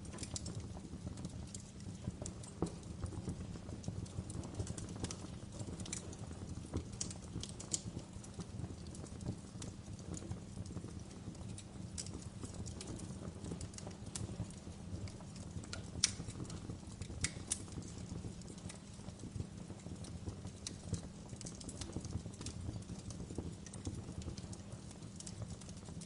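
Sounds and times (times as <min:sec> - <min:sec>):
fire crackling: 0:00.0 - 0:26.0
fire popping: 0:00.0 - 0:26.0
fire rumbling: 0:00.0 - 0:26.0.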